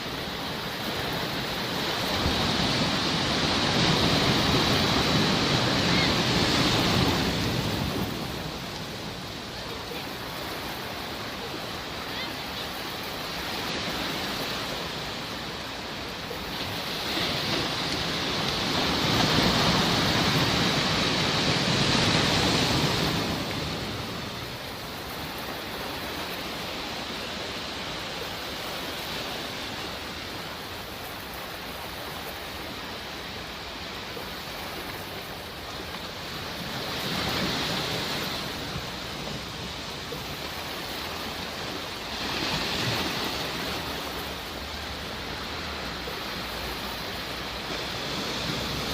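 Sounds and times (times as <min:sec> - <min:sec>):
sea waves washing ashore: 0:00.0 - 0:48.9.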